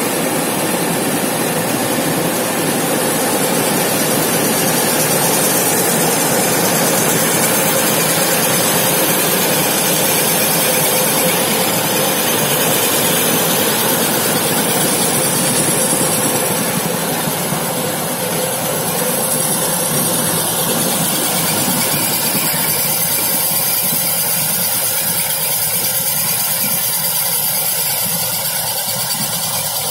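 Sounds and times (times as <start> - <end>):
lamination machine running: 0.0 - 29.9.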